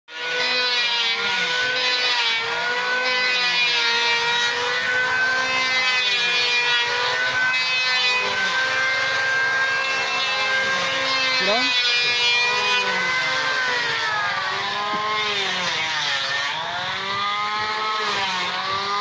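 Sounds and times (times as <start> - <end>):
power tool motor whine on wood: 0.1 - 19.0.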